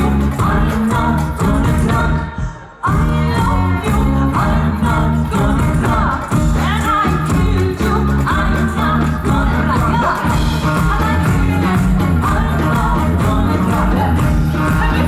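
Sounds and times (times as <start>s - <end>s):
bass line: 0.0s - 15.0s
live band playing: 0.0s - 15.0s
person singing: 0.0s - 15.0s.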